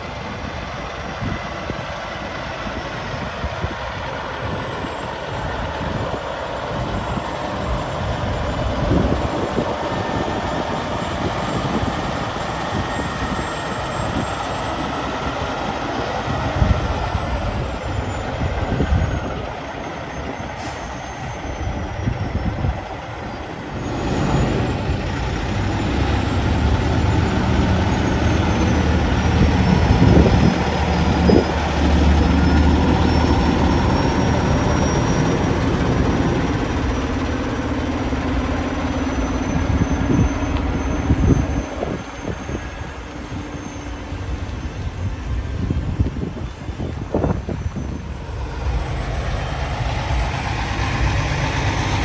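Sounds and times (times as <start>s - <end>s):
truck diesel engine running: 0.0s - 52.0s.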